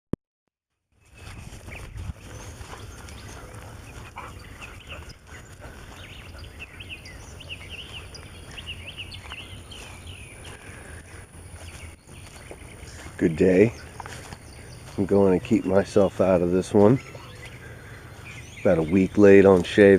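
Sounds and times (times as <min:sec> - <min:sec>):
birds chirping: 0:00.9 - 0:19.9.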